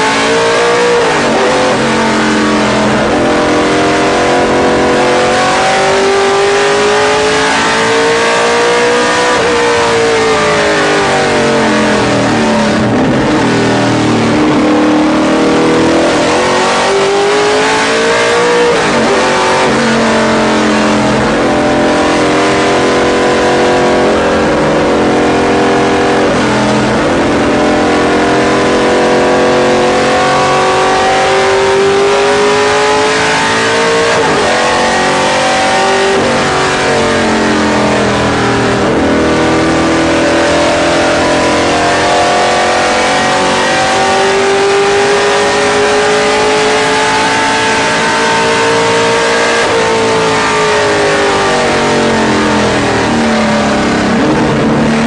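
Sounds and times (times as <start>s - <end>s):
race car engine revving through gears: 0.0s - 55.0s.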